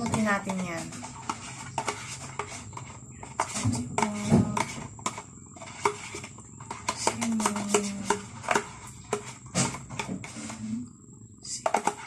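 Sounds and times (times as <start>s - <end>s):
metal spoon scraping carton: 0.0s - 10.8s, 11.5s - 12.0s.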